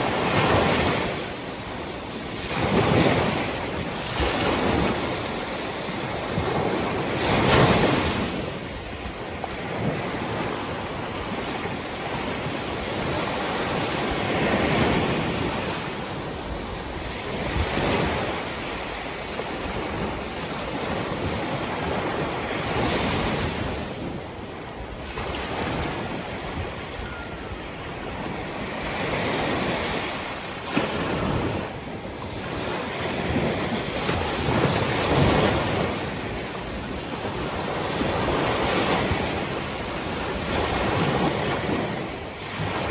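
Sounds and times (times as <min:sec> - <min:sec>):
ocean waves breaking on beach: 0:00.0 - 0:42.9.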